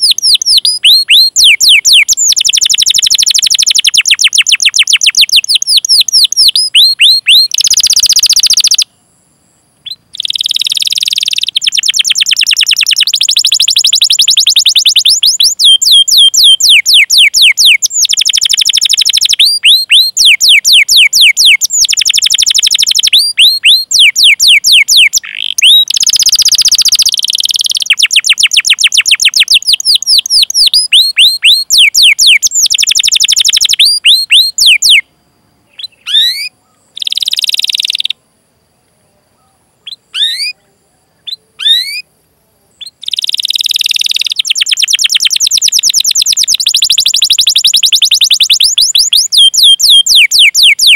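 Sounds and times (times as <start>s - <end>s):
canary singing trills: 0.0s - 9.0s, 9.8s - 38.2s, 39.4s - 42.1s, 42.7s - 50.9s.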